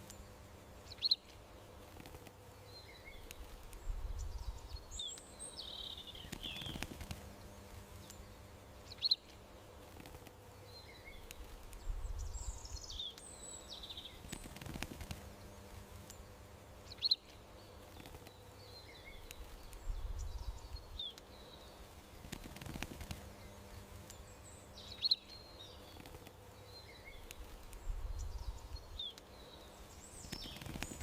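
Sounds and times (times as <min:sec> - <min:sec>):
faint steady hum: 0:00.0 - 0:31.0
small birds chirping: 0:00.0 - 0:31.0.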